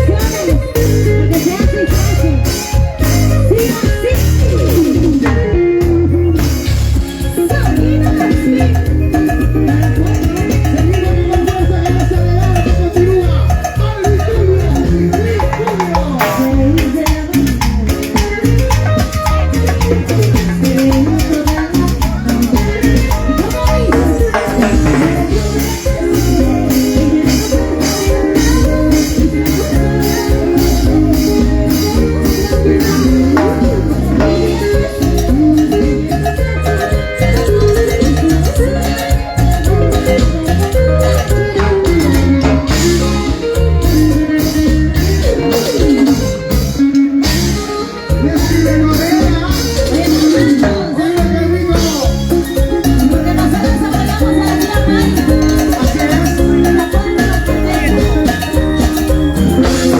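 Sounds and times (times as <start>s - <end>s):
band playing latin dance music: 0.0s - 59.9s
drum kit: 0.0s - 59.9s
rattle percussion: 0.0s - 59.9s.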